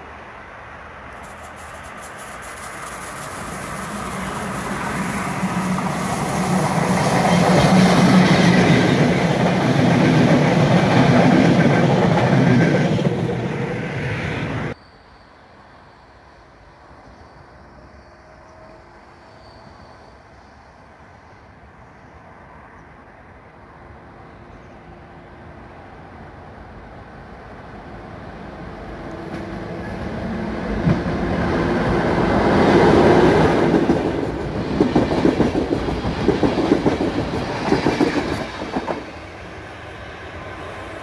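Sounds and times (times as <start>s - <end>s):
passenger train passing: 0.0s - 41.0s.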